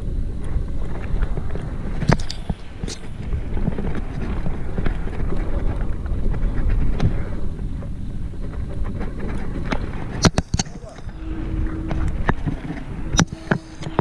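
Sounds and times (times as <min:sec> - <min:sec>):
bike rattling over bumps: 0:00.0 - 0:14.0
wind buffeting microphone: 0:00.0 - 0:14.0.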